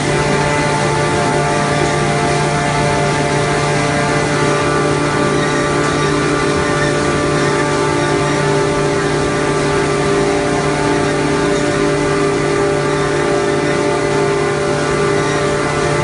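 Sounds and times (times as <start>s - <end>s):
production line machine drone: 0.0s - 16.0s.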